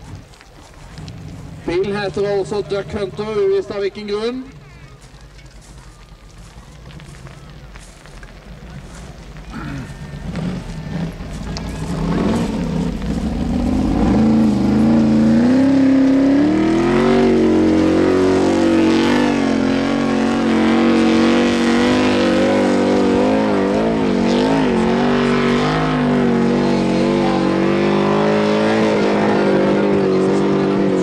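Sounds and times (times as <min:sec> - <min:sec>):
car engine at full throttle: 0:00.0 - 0:31.0.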